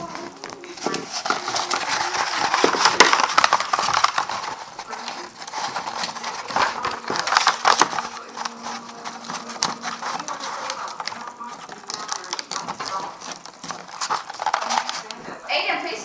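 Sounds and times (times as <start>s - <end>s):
paper rustling and crinkling: 0.0s - 15.5s.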